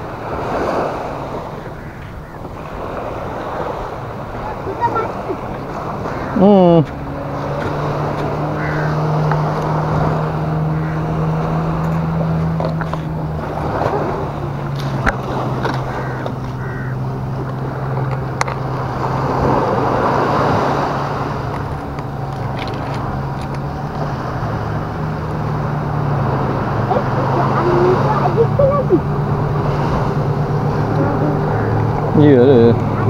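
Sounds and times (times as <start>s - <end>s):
low engine drone: 0.0s - 33.0s
waves washing through rocks: 0.0s - 33.0s.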